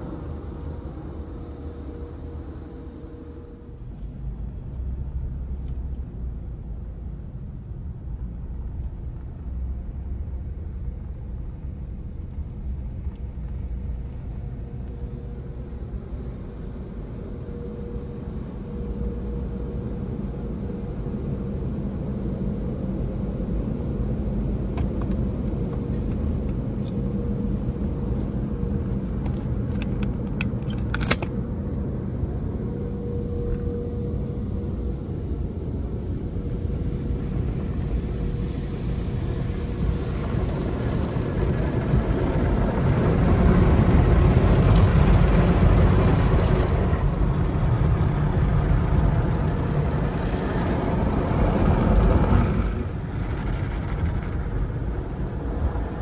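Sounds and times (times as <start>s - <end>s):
car wash equipment rumbling: 0.0s - 56.0s.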